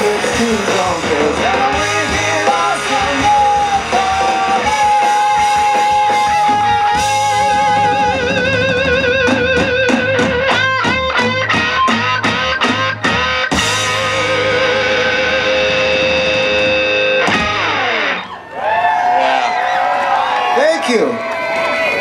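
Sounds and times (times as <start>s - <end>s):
electric guitar solo: 0.0s - 19.5s
band playing live: 0.0s - 19.6s.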